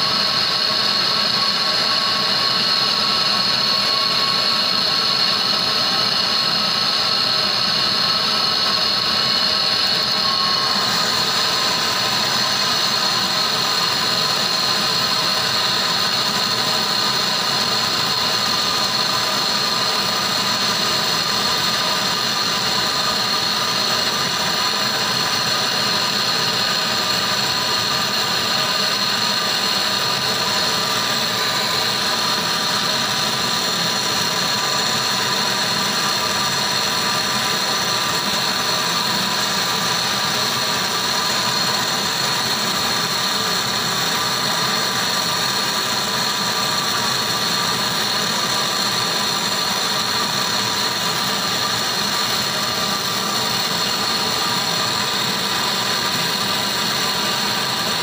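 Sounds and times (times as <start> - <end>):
gas torch flame hissing: 0.1 - 58.0.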